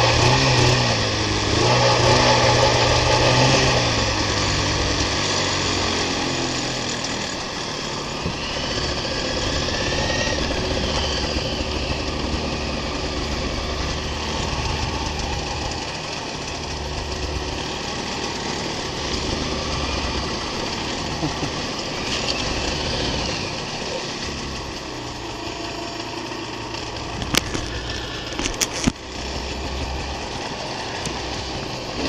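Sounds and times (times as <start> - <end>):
constant rushing noise: 0.0 - 32.0
snowmobile engine running: 0.0 - 32.0.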